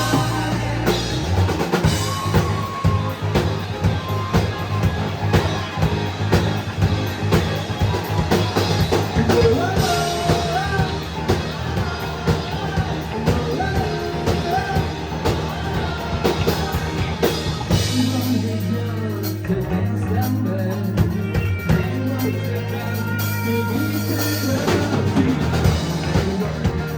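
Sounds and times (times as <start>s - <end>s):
person singing: 0.0s - 3.4s, 8.3s - 26.9s
drum kit beat: 0.0s - 26.9s
rock band playing: 0.0s - 26.9s.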